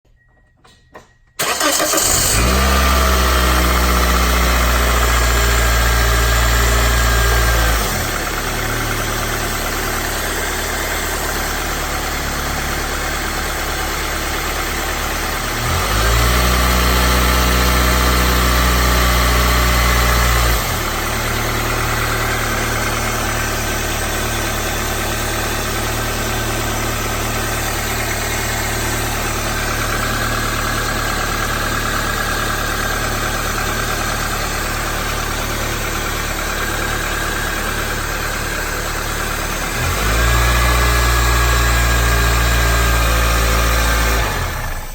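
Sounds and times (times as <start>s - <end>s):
car engine starting and idling: 1.3s - 44.9s.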